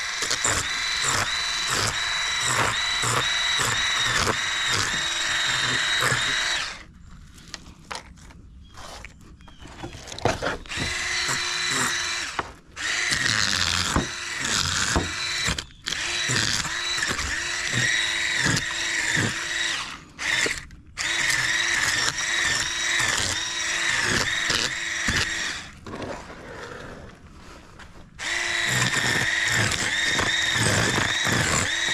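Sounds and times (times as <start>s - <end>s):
electric fish scaler whining: 0.0s - 6.9s, 10.6s - 25.8s, 28.2s - 31.9s.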